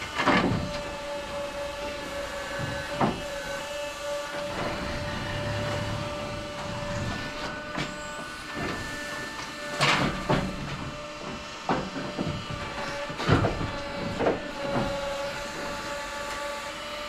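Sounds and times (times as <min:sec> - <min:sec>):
crane whine: 0:00.0 - 0:17.0.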